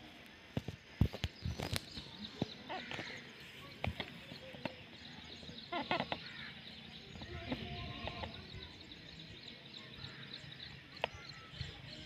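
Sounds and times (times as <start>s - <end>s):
parrot calls and chatter: 0.6s - 12.0s.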